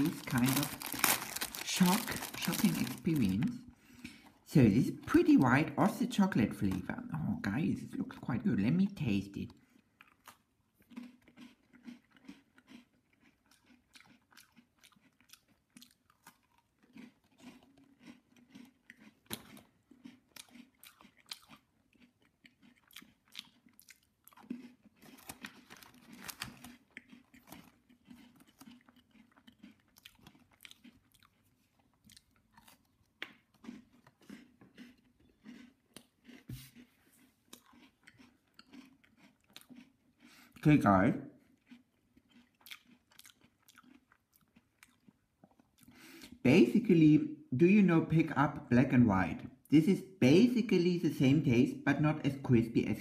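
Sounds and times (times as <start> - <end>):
person crunching a cookie: 0.0 - 46.8.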